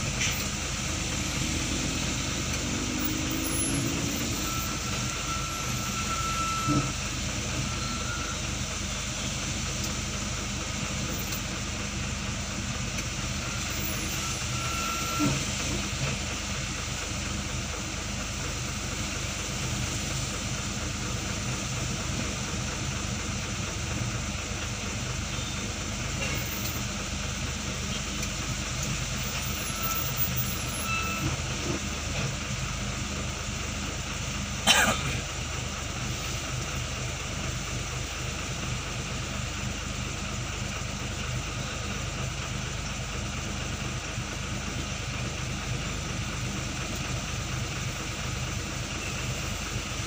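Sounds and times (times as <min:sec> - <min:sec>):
large vehicle engine idling: 0:00.0 - 0:50.0.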